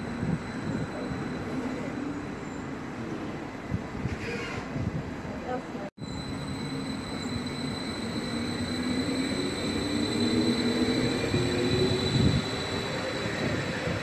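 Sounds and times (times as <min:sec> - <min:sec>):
train rail rumble: 0:00.0 - 0:14.0.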